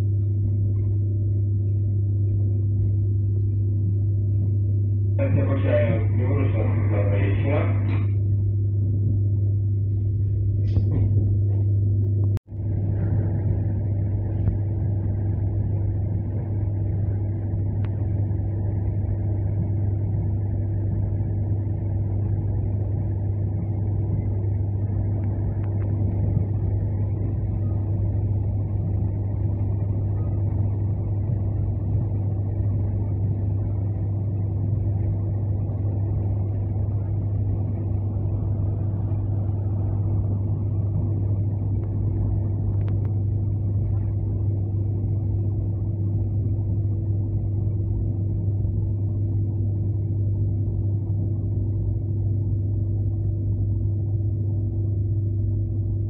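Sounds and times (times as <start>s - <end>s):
electric train running rumble: 0.0s - 56.0s
strong low hum: 0.0s - 56.0s.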